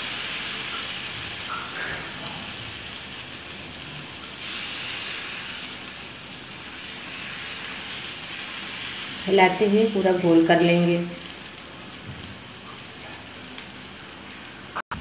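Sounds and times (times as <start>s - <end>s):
batter sizzling on hot pan: 0.0s - 15.0s.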